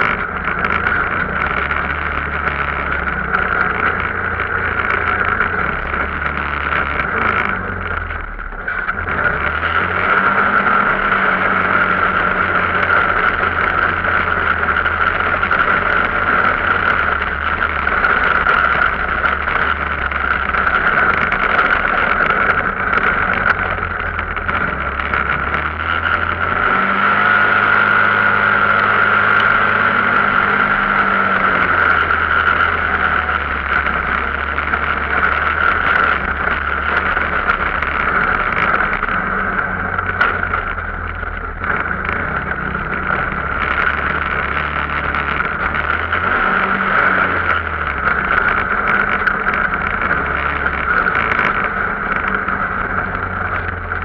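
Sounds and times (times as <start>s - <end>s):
steady rushing noise: 0.0s - 54.0s
vehicle engine running: 0.0s - 54.0s.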